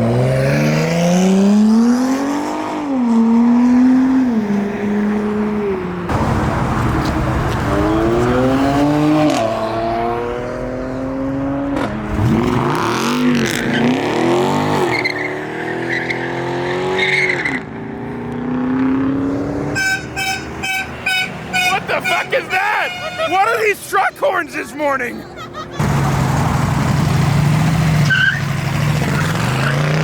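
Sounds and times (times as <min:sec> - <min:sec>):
car engines revving and accelerating: 0:00.0 - 0:30.0.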